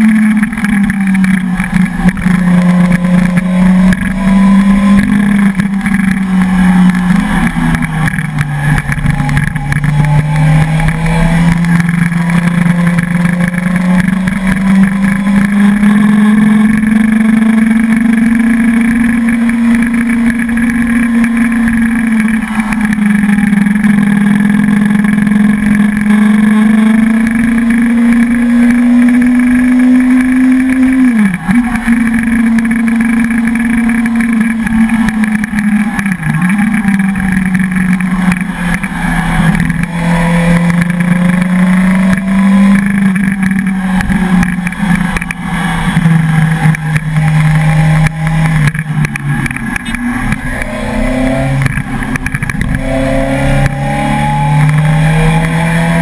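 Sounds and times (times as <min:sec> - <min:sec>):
motorcycle engine under load: 0:00.0 - 0:56.0.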